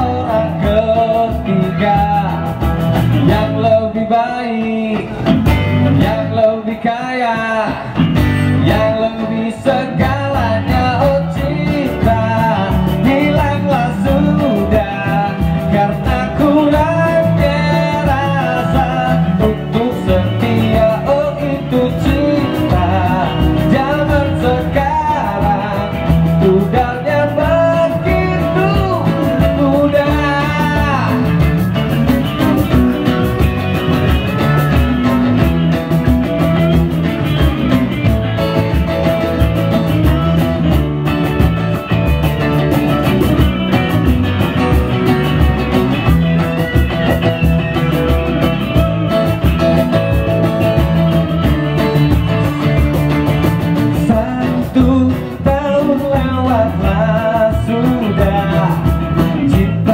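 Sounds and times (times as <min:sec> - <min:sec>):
man singing: 0:00.0 - 0:40.8, 0:42.6 - 0:59.9
cajon beat: 0:00.0 - 0:59.9
electric guitar: 0:00.0 - 0:59.9
strummed acoustic guitar: 0:00.0 - 0:59.9.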